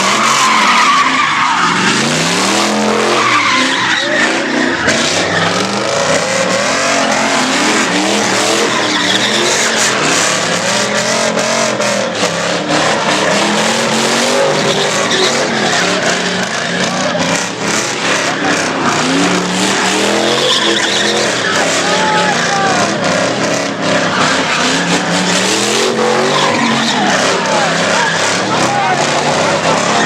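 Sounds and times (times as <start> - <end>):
car engine revving: 0.0 - 30.0
tyres squealing: 0.0 - 30.0.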